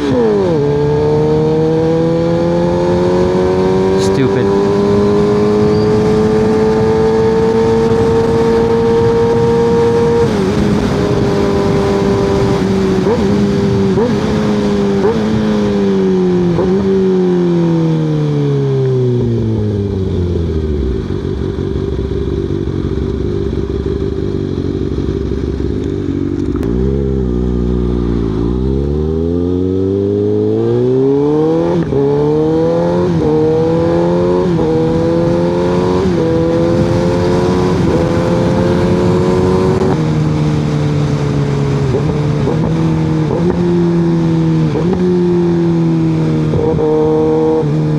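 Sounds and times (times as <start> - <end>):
motorcycle engine revving and shifting: 0.0 - 47.9.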